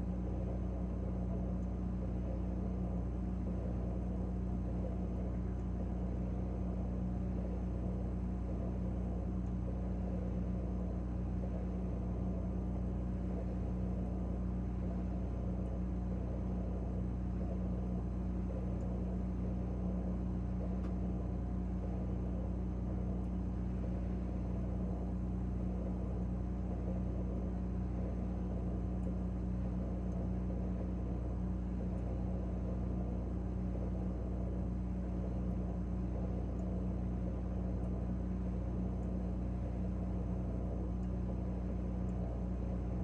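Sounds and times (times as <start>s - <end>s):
refrigerator humming: 0.0s - 43.0s.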